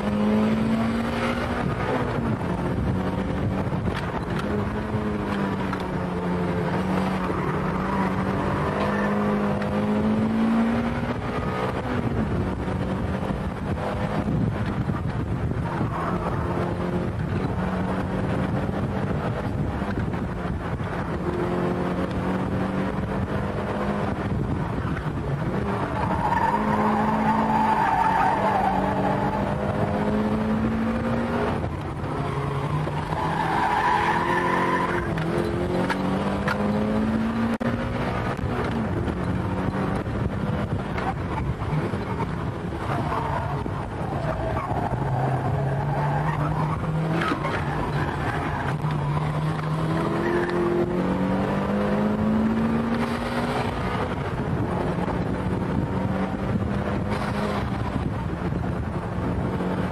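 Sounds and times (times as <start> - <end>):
car engine revving hard: 0.0 - 59.9.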